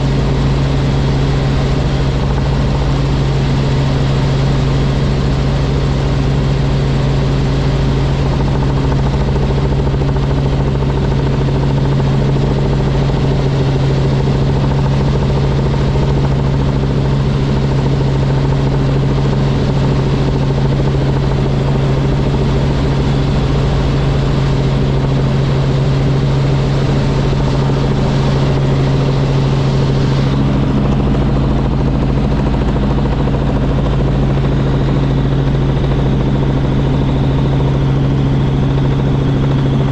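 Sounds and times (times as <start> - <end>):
helicopter engine and rotors droning: 0.0 - 39.9.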